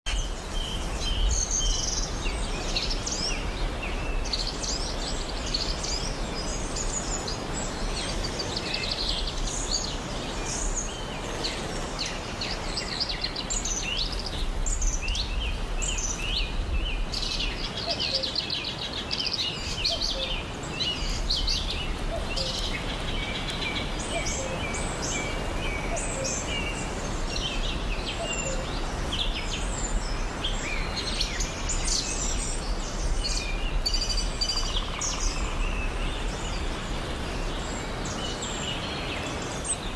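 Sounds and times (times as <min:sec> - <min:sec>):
background hiss: 0:00.1 - 0:39.9
birds chirping and twittering: 0:00.1 - 0:39.9.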